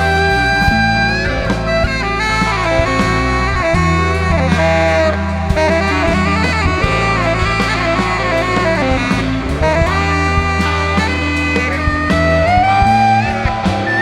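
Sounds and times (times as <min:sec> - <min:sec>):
bass: 0:00.0 - 0:14.0
drum kit: 0:00.0 - 0:14.0
electric guitar: 0:00.0 - 0:14.0
saxophone melody: 0:00.0 - 0:14.0.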